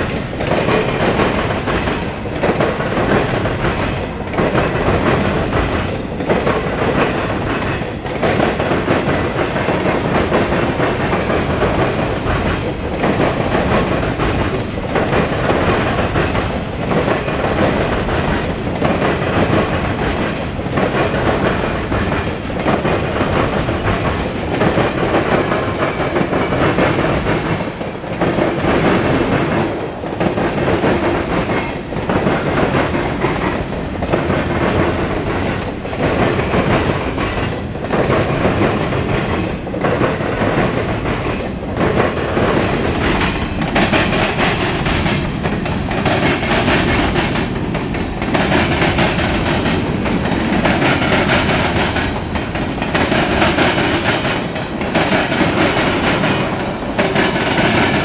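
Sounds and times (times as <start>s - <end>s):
train cars rumbling: 0.0s - 58.0s
train wheels clattering: 0.0s - 58.0s.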